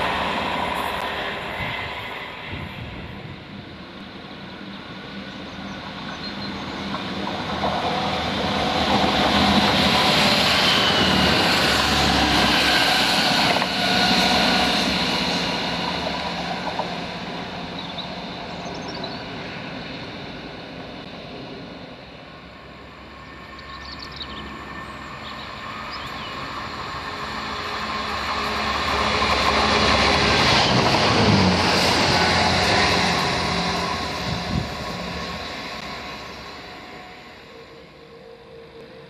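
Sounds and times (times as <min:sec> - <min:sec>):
diesel train passing: 0:00.0 - 0:39.0.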